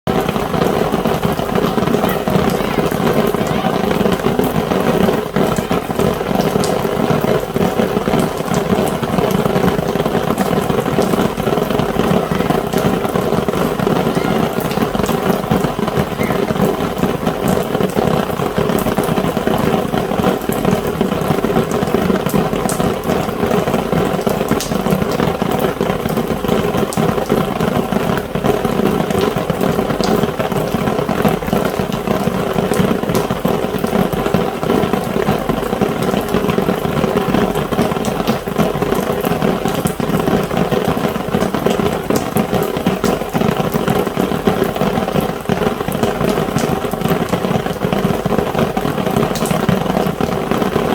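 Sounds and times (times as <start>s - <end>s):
rain drumming on an umbrella: 0.0s - 50.9s.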